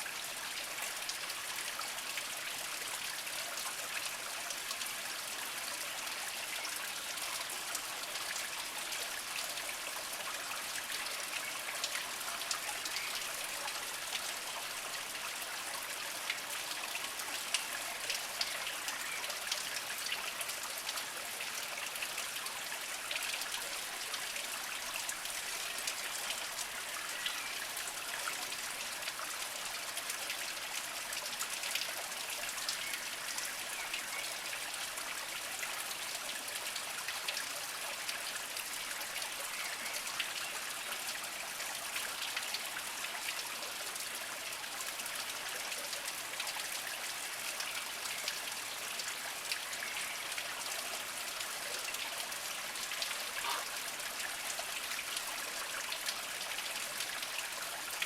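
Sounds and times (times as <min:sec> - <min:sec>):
spring water trickling over rocks: 0:00.0 - 0:58.0
water drips and splashes: 0:00.0 - 0:58.0.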